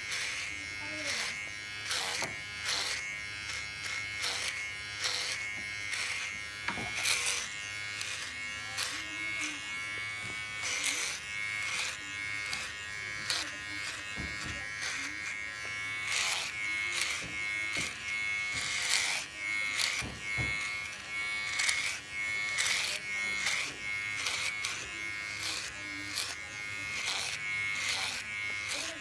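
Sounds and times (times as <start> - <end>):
clippers crackling through hair: 0.0 - 29.0
electric hair clippers buzzing: 0.0 - 29.0.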